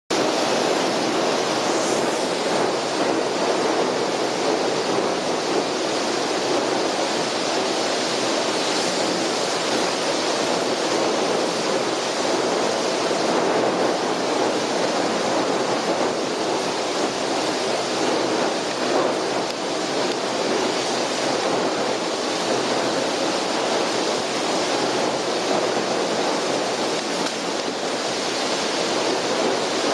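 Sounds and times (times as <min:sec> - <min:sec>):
rough sea: 0:00.1 - 0:29.9
storm wind: 0:00.1 - 0:29.9.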